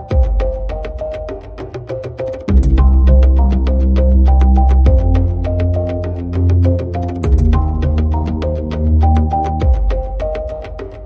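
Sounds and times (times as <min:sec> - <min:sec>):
music with ticking beat and bass: 0:00.0 - 0:11.0.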